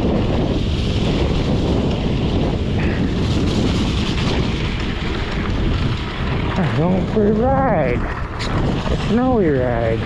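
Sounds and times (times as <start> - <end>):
tyres rumbling on wet gravel: 0.0 - 10.0
wind buffeting microphone: 0.0 - 10.0.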